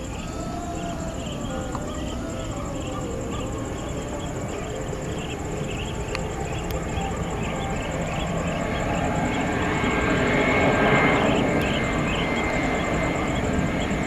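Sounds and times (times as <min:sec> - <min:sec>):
jet engines roaring and whining: 0:00.0 - 0:14.0
light rhythmic chirping: 0:00.0 - 0:14.0.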